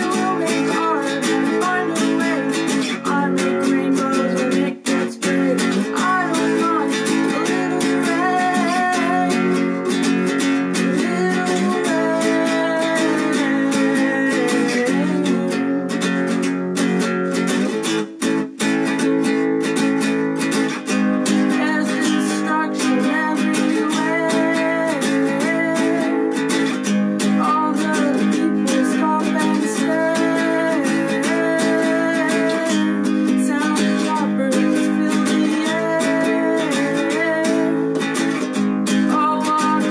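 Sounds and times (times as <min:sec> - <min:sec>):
classical guitar strumming: 0:00.0 - 0:39.9.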